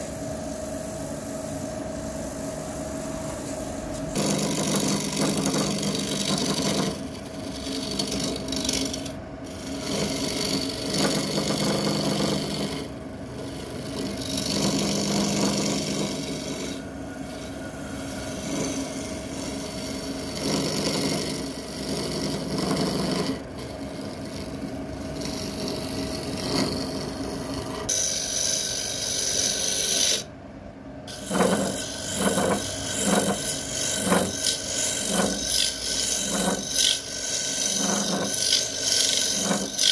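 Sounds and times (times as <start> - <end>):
lathe machine hum: 0.0 - 30.2, 31.1 - 39.9
lathe tool scraping wood: 0.0 - 30.3, 31.1 - 39.9.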